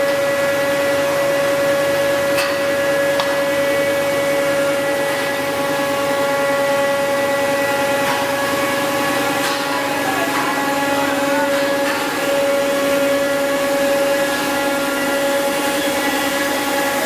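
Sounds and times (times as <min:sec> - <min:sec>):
machine hum with whine: 0:00.0 - 0:17.0.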